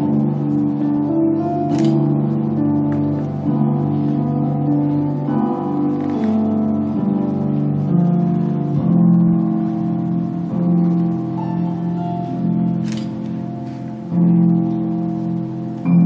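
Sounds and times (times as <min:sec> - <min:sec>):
instrumental music with held chords: 0:00.0 - 0:16.0.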